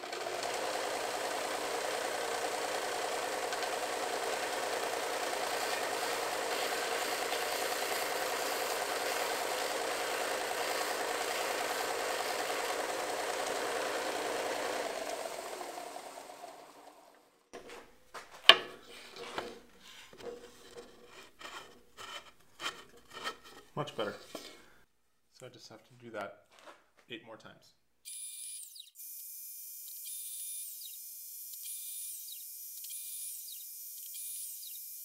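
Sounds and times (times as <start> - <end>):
belt sander sanding wood: 0.0 - 24.7, 28.2 - 35.0.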